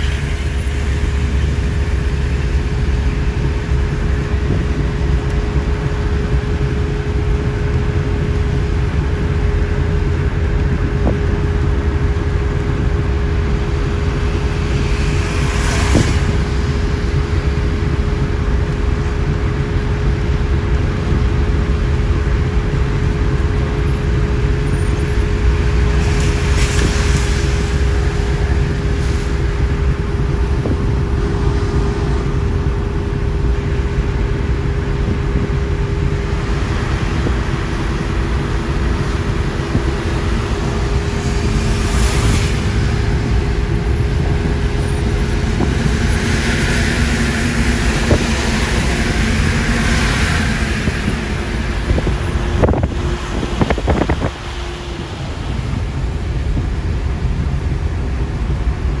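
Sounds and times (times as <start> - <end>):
vehicle road noise rumble: 0.0 - 59.0.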